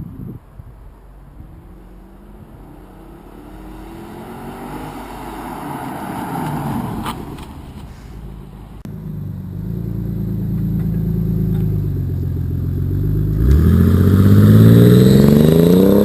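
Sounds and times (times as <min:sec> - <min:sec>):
car accelerating hard: 0:01.3 - 0:16.0.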